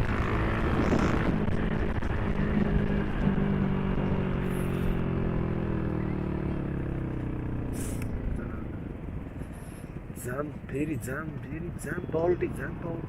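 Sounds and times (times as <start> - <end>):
motorcycle engine running: 0.0 - 13.0
wind and road rush: 0.0 - 13.0.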